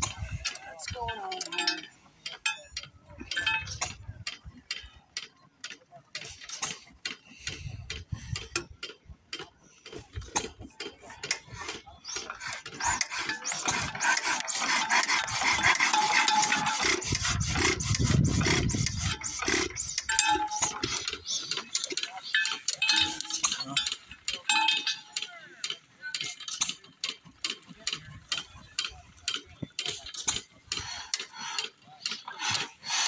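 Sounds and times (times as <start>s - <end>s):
stationary engine clattering: 0.0s - 33.0s.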